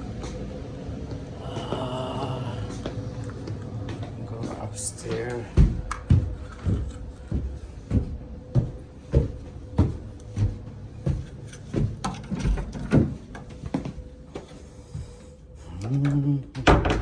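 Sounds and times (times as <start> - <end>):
footsteps walking: 0.0 - 15.5
faint steady hum: 0.0 - 17.0.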